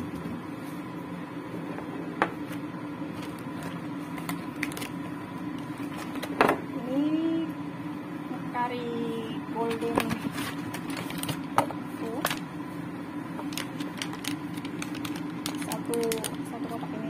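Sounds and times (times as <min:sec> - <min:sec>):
kitchen hum: 0:00.0 - 0:17.0.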